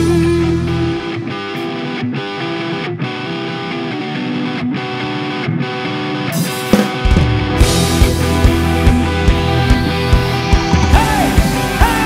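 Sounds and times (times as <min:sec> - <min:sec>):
distorted electric guitar lead: 0:00.0 - 0:12.0.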